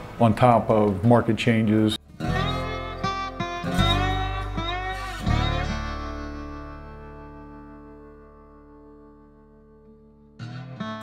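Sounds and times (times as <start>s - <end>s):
guitar chord ringing: 2.1s - 11.0s.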